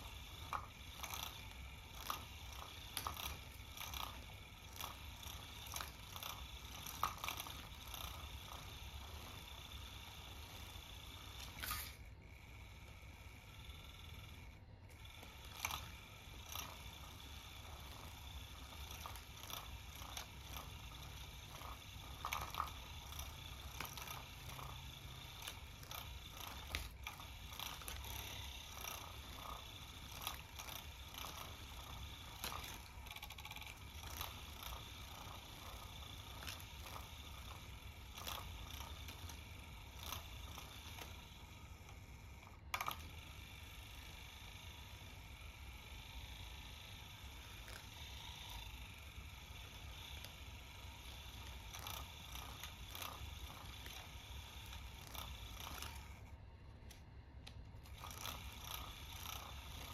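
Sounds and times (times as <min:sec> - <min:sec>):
motorized toy hum: 0:00.0 - 0:59.9.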